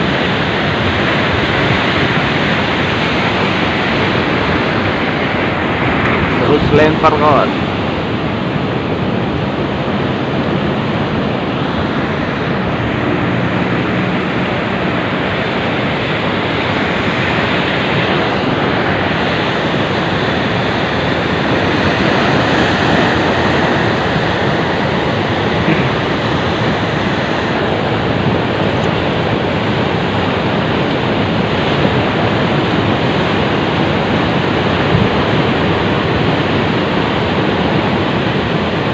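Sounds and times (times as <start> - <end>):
sea waves rushing: 0.0 - 38.9
wind: 0.0 - 38.9.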